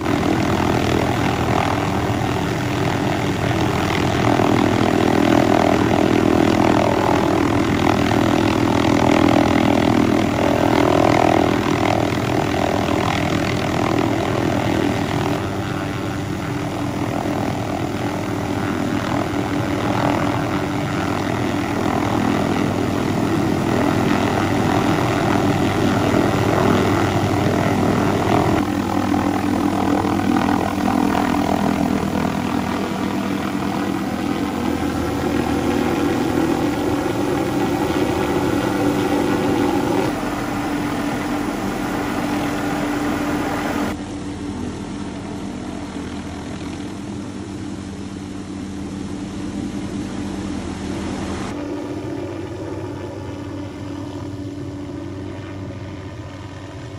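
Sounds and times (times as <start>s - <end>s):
helicopter hovering: 0.0s - 56.9s.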